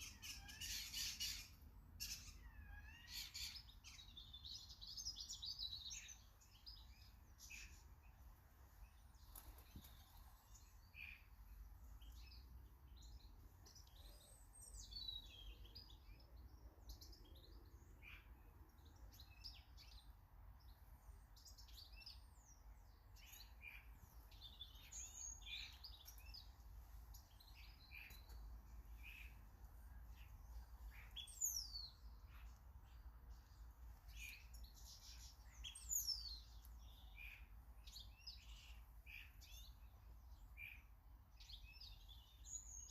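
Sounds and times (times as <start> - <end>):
birds chirping and twittering: 0.0 - 42.9.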